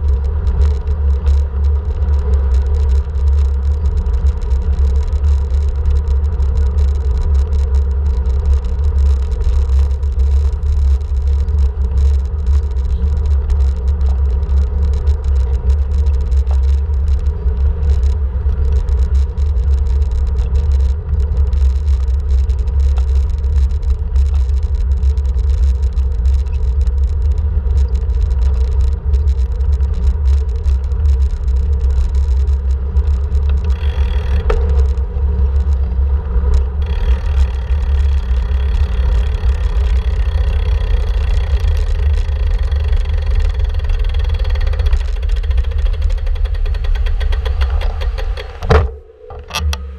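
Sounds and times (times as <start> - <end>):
even drone: 0.0 - 49.9.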